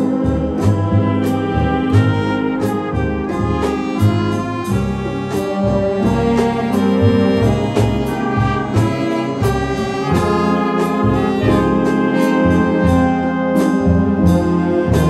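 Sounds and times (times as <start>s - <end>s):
jazz big band playing: 0.0s - 15.0s.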